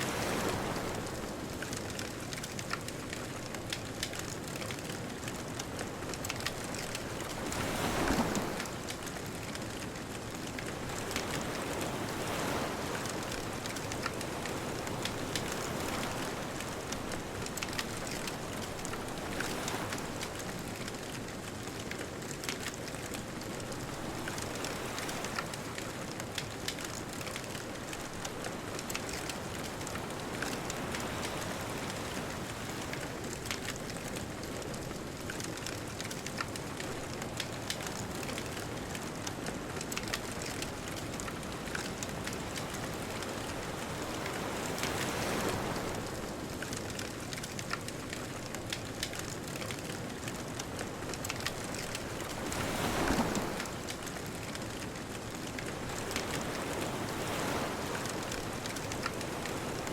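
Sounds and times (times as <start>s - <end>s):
distant ocean waves: 0.0s - 59.9s
bonfire crackling and popping: 1.5s - 12.3s, 13.1s - 59.8s.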